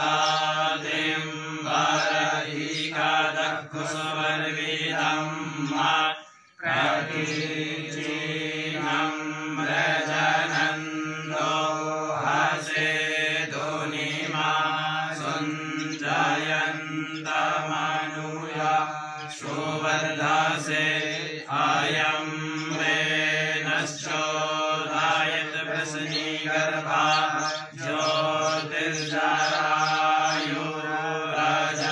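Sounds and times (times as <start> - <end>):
men chanting: 0.0 - 31.9.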